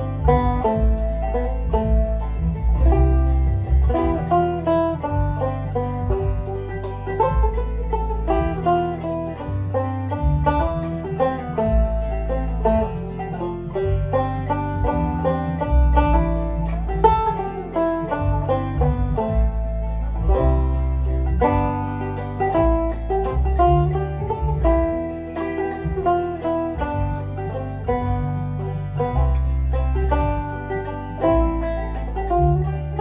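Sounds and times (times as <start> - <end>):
backing track with deep bass: 0.0 - 33.0
banjo plucking: 0.0 - 33.0.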